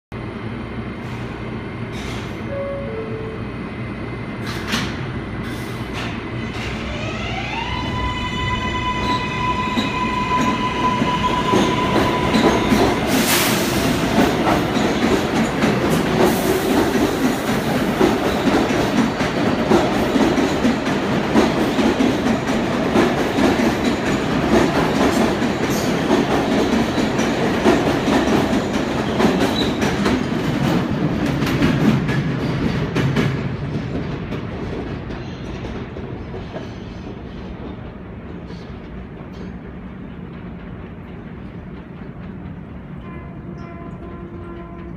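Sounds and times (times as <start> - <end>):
train wheels clattering on rails: 4.4 - 6.9, 9.0 - 44.9.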